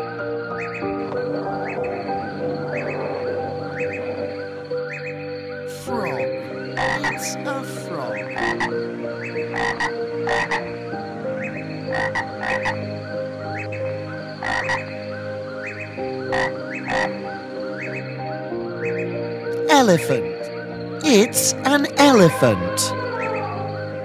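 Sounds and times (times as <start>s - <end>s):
frogs croaking: 0.0s - 24.0s.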